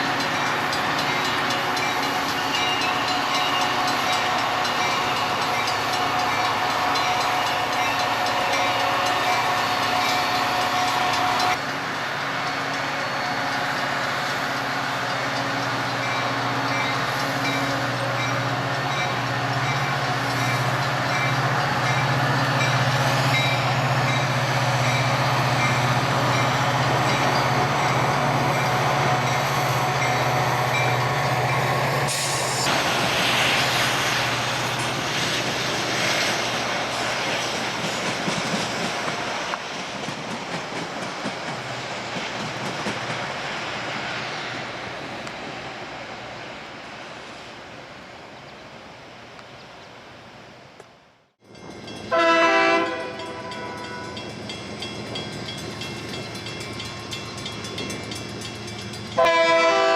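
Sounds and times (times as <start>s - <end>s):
train rushing noise: 0.0s - 50.6s, 51.4s - 59.9s
train hum: 0.0s - 59.9s.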